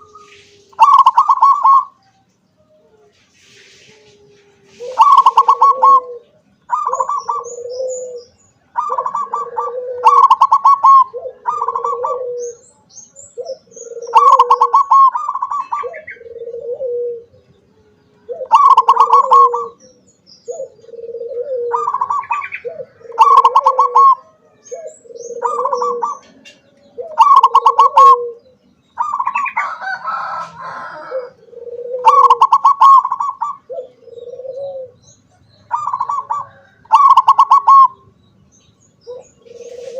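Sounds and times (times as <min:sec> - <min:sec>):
dove cooing song: 0:00.0 - 0:39.9.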